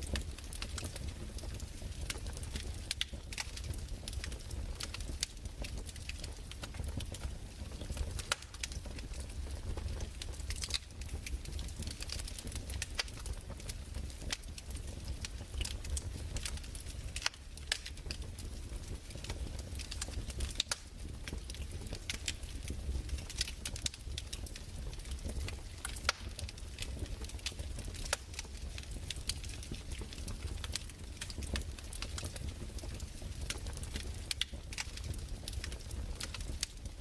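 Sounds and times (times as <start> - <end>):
fire popping: 0.0 - 37.0
fireplace fire crackling: 0.0 - 37.0
low rumble of fire: 0.0 - 37.0.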